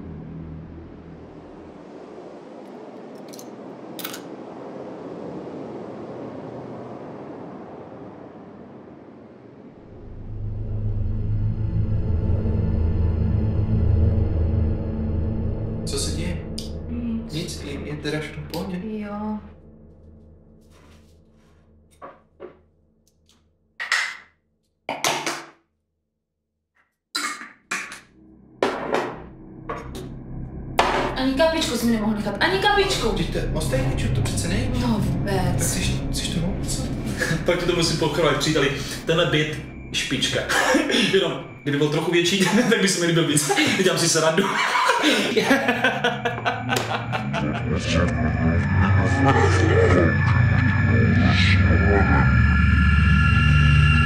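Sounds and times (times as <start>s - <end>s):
deep droning music score: 0.0s - 7.8s, 9.4s - 23.6s, 27.7s - 54.0s
low noise drone: 0.0s - 22.4s, 27.7s - 54.0s.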